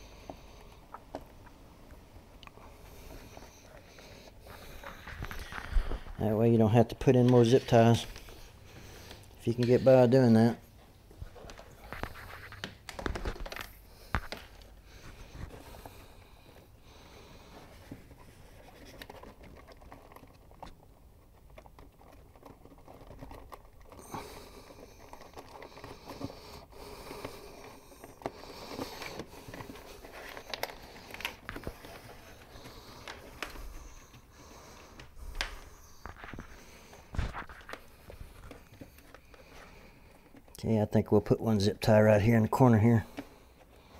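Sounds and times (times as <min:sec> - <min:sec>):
wire rustling: 0:00.0 - 0:40.6.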